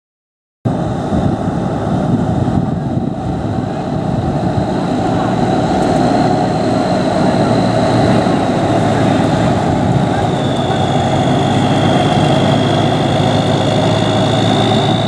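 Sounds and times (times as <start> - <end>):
diesel truck engine running: 0.7 - 15.0
faint high whine: 0.7 - 15.0.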